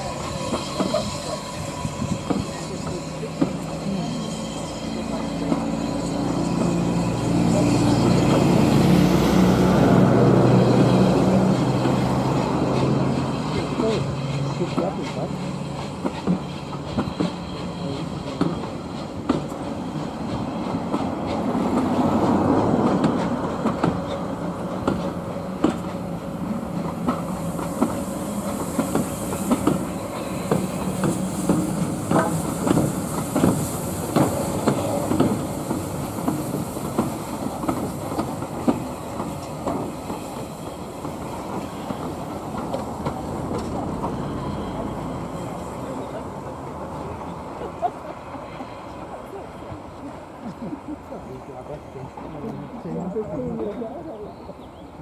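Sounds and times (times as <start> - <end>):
train wheels clattering over rail joints: 0.0 - 50.6
high hiss of steam: 0.0 - 52.2
train rumble: 0.0 - 55.0.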